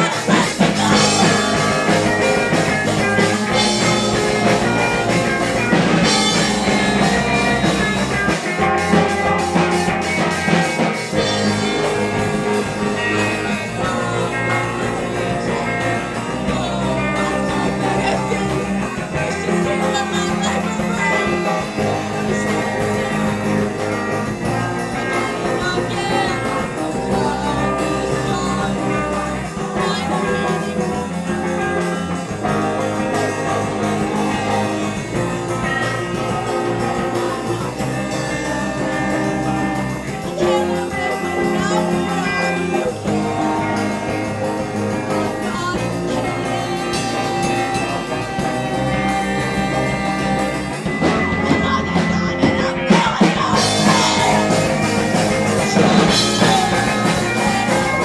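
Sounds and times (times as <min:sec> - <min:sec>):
bass guitar: 0:00.0 - 0:58.0
drums with cymbal crashes: 0:00.0 - 0:58.0
electric guitars: 0:00.0 - 0:58.0
person singing: 0:00.0 - 0:58.0.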